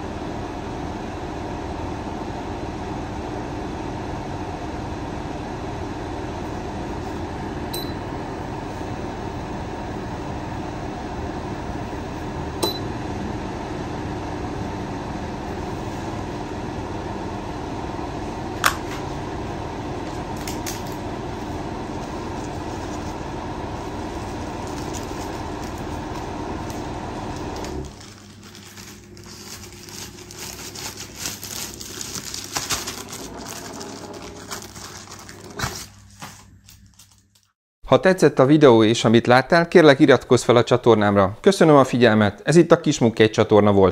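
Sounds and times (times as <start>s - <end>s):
fan heater air rushing: 0.0s - 37.2s.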